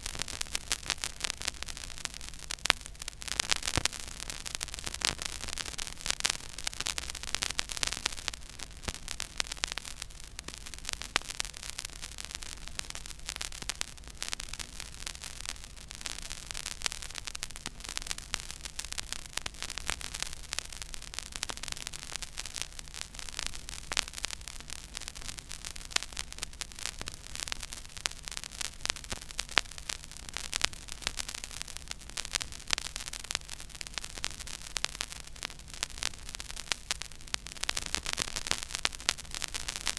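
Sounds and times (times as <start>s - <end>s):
steady hiss: 0.0s - 39.9s
vinyl crackle and pops: 0.0s - 39.9s.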